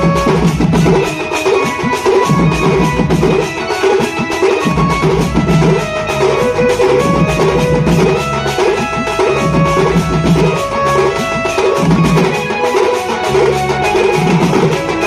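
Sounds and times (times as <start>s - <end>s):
street drum band: 0.0s - 15.0s.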